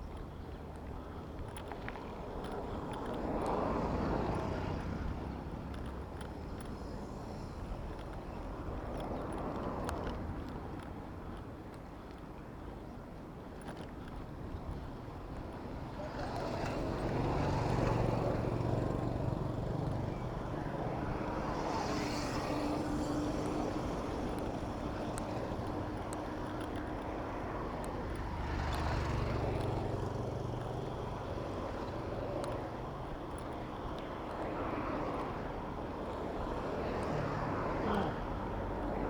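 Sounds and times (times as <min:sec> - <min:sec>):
vehicle engines passing: 0:00.0 - 0:11.4, 0:15.2 - 0:39.0
wind and road noise: 0:00.0 - 0:39.0.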